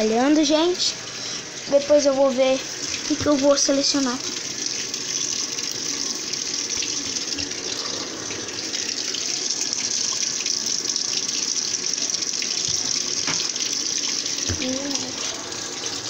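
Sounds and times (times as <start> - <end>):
water pouring into washing machine: 0.0 - 16.0.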